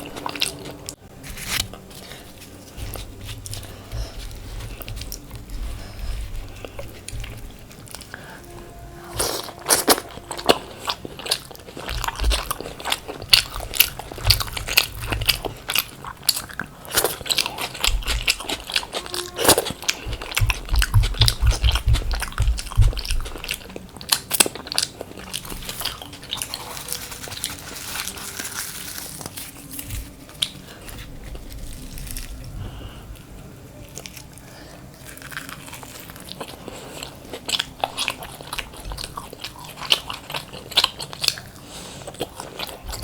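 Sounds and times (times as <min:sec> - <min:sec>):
chewing crisp fried food: 0:00.0 - 0:43.0.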